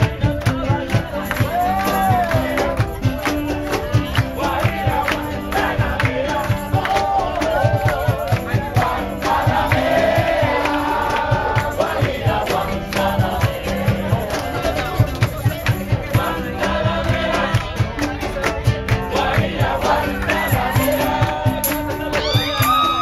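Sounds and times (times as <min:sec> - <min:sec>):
crowd clapping along: 0:00.0 - 0:23.0
live band playing upbeat music: 0:00.0 - 0:23.0
voices singing: 0:00.0 - 0:23.0.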